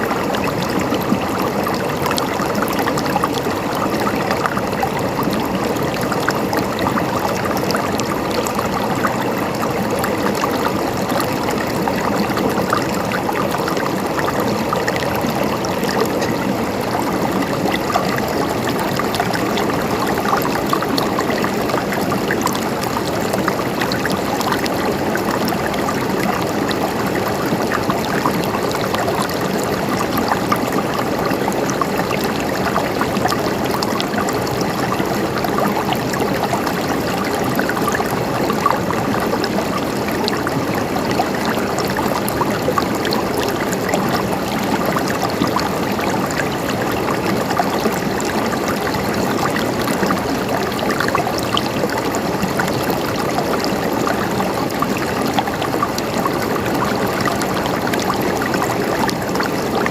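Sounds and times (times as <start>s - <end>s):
river water rushing over stones: 0.0s - 59.9s.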